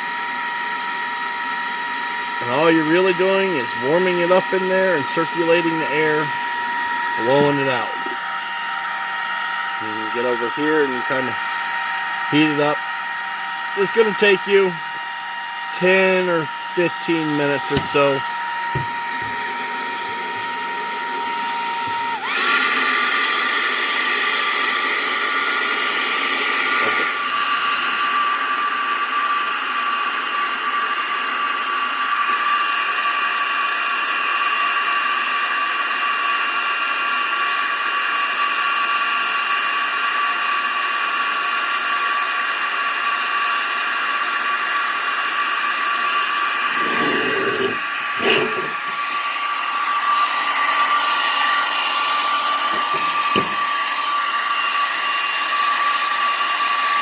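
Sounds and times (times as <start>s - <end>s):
hot-air blower whining: 0.0s - 57.0s.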